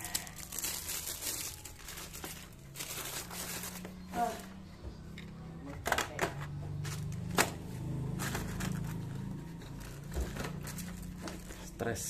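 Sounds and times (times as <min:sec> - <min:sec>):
paper and plastic rustling: 0:00.0 - 0:04.6, 0:06.8 - 0:12.0.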